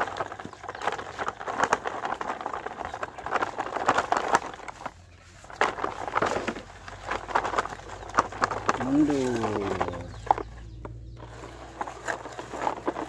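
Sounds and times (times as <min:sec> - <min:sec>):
toy truck rattling over dirt: 0:00.0 - 0:13.0.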